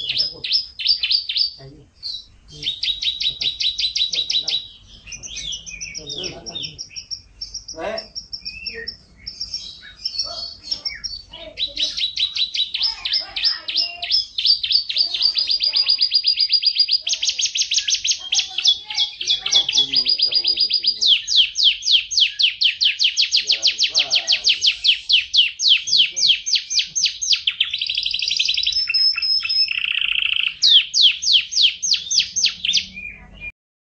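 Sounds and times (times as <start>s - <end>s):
canary singing trills: 0.0s - 33.5s.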